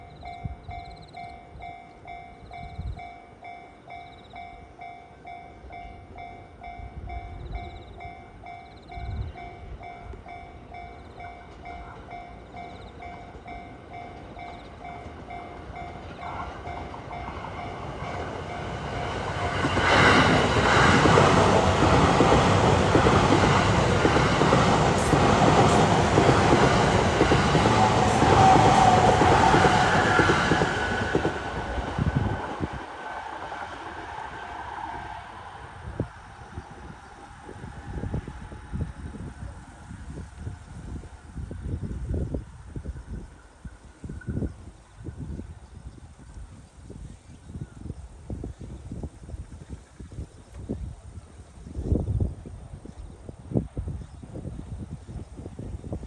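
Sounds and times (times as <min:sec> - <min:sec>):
electric train passing: 0:00.0 - 0:47.1.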